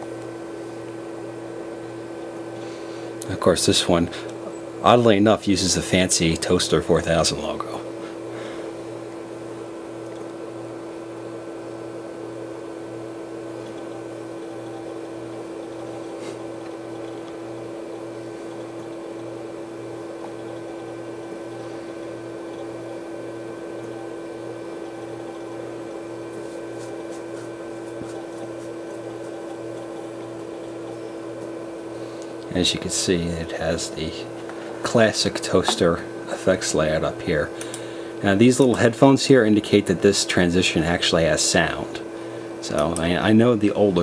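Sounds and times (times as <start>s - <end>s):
desktop computer whirring: 0.0s - 44.0s.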